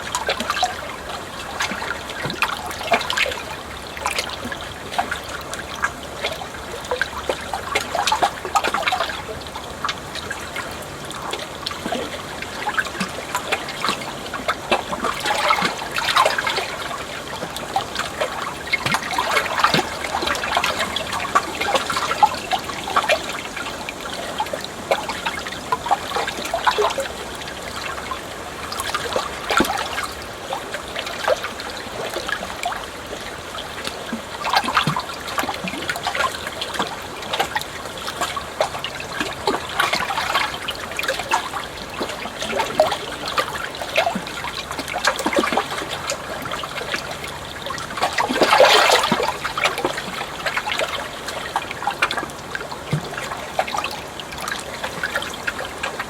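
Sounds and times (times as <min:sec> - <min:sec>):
small water splashes: 0:00.0 - 0:56.0
water flowing and trickling: 0:00.0 - 0:56.0
water surging: 0:00.0 - 0:56.0.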